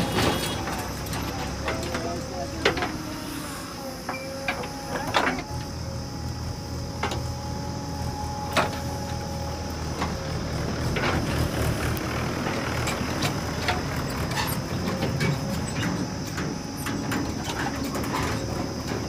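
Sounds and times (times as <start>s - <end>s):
diesel engine running with whine: 0.0s - 19.0s.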